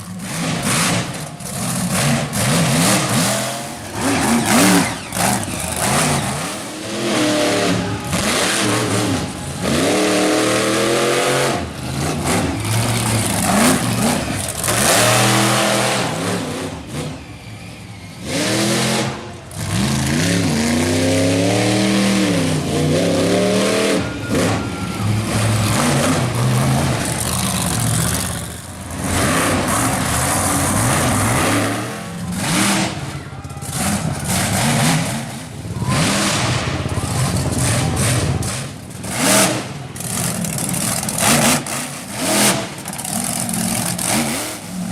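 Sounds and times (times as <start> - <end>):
monster truck engine revving: 0.0 - 44.9.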